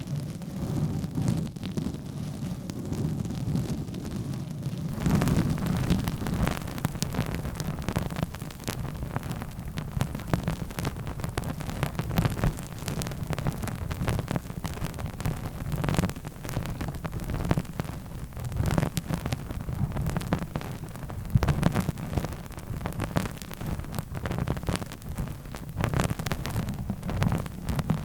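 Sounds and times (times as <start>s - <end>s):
low rumbling rustle: 0.0s - 28.0s.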